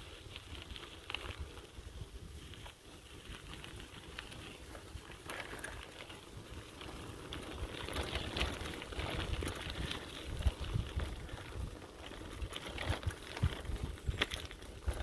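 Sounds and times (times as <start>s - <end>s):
bicycle tyres crunching gravel: 0.0s - 15.0s.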